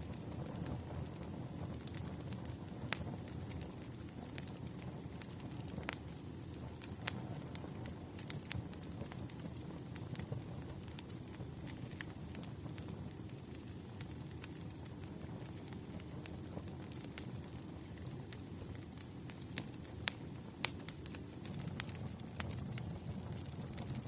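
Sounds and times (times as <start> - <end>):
firewood crackling: 0.0 - 24.0.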